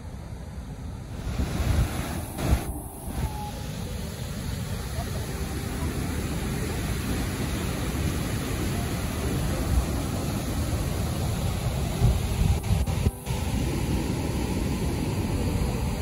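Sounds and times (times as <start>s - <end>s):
waterfall roaring: 1.1s - 16.0s.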